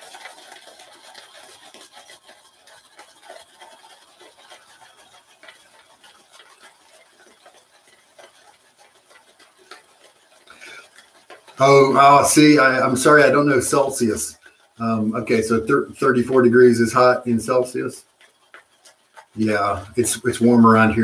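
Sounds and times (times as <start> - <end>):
shaving brush scrubbing lather: 0.0 - 21.0.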